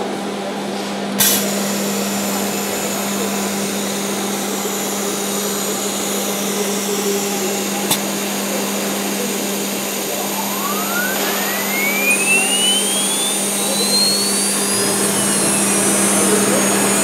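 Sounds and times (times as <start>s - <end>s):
cnc router whirring hum: 1.6s - 17.0s.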